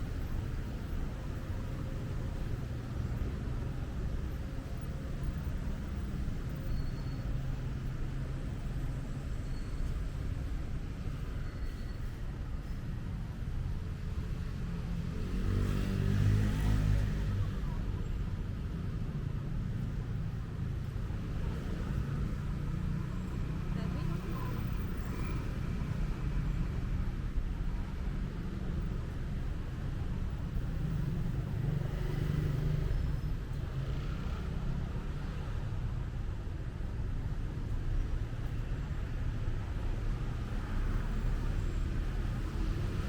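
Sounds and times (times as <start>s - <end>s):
street traffic rumble: 0.0s - 43.0s.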